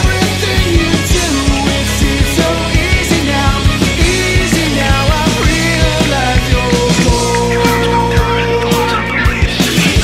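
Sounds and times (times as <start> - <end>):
driving drum beat: 0.0 - 10.0
loud rock music: 0.0 - 10.0.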